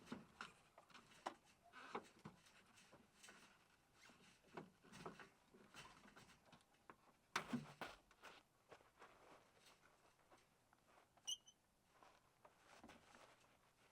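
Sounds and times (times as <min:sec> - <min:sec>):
faint clicks and rustles: 0:00.0 - 0:13.9.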